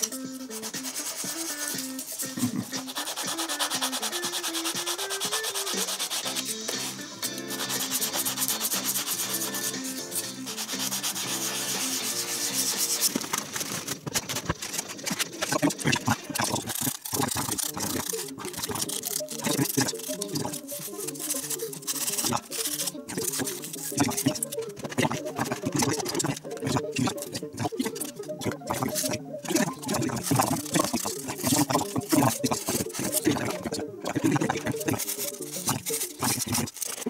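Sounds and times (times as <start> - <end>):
sanding stick rubbing foam: 0.0 - 13.9, 14.6 - 37.0.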